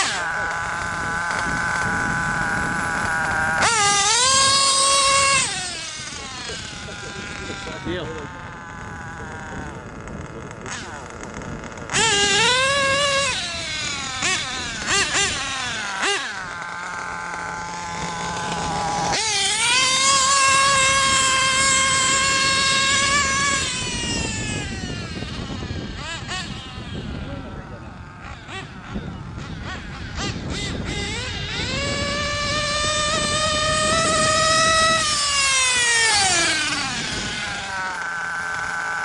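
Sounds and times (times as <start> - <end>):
model truck engine revving: 0.0 - 39.0.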